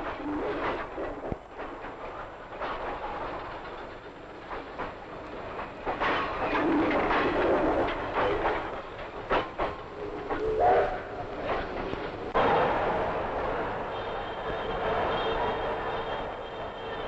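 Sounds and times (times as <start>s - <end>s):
train wheels clanking: 0.0s - 17.0s
train wheels on rails: 0.0s - 17.0s.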